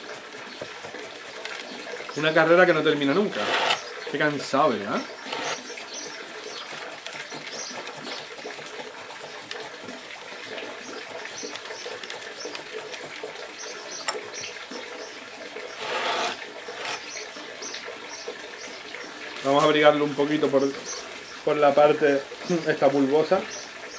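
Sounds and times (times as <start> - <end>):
running water: 0.0 - 23.9.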